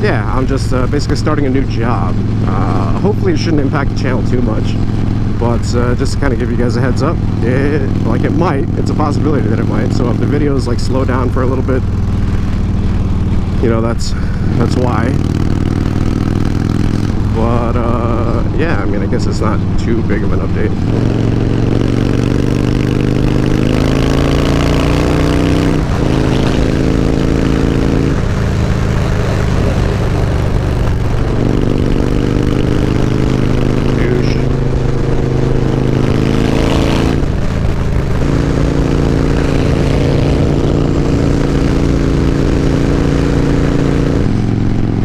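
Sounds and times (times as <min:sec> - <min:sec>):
motorcycle engine at speed: 0:00.0 - 0:45.0
rumbling wind noise: 0:00.0 - 0:45.0.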